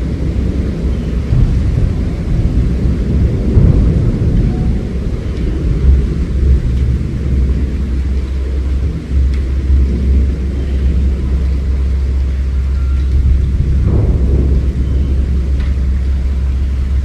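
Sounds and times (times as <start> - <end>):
loud low rumble: 0.0 - 17.0.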